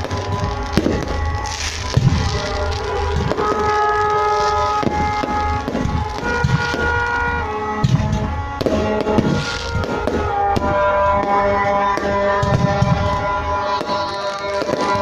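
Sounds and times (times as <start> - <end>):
fireworks popping and banging: 0.0 - 15.0
music playing: 0.0 - 15.0.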